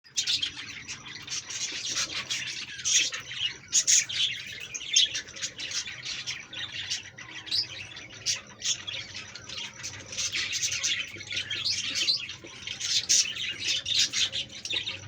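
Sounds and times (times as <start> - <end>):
flock of birds chirping and squawking: 0.1 - 15.0.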